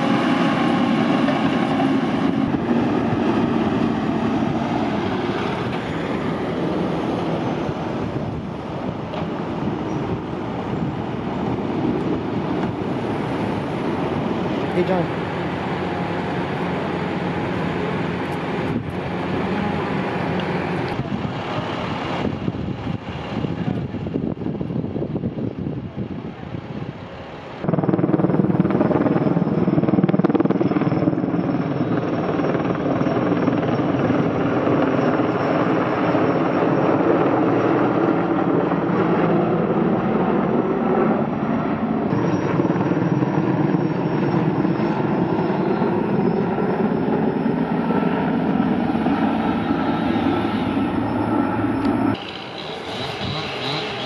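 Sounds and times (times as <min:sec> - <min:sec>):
helicopter rotor and turbine noise: 0:00.0 - 0:54.0.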